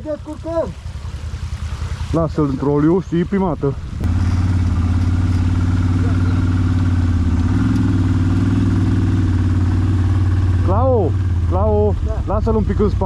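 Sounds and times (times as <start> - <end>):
atv engine droning: 0.0 - 13.0
winch hauling: 0.0 - 13.0.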